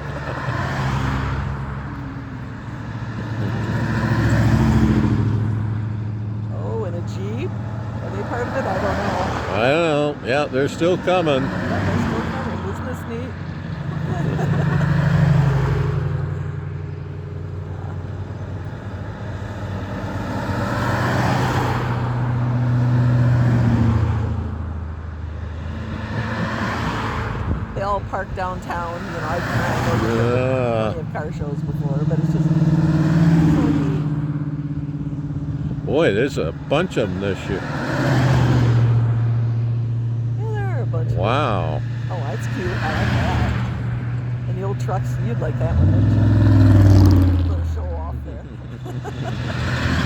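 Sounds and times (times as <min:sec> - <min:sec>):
cars driving past slowly: 0:00.0 - 0:50.0
tyres rushing on pavement: 0:00.0 - 0:50.0.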